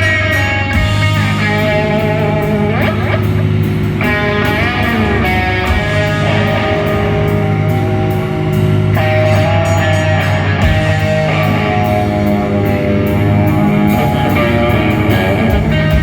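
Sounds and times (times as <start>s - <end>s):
bass: 0.0s - 16.0s
distorted electric guitar: 0.0s - 16.0s
drums: 0.0s - 16.0s.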